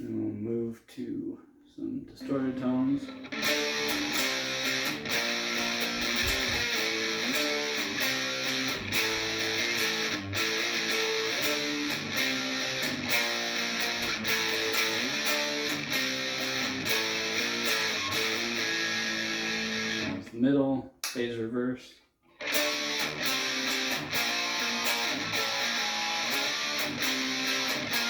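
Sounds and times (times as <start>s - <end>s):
distorted electric guitar riff: 2.2s - 20.2s, 22.4s - 28.0s.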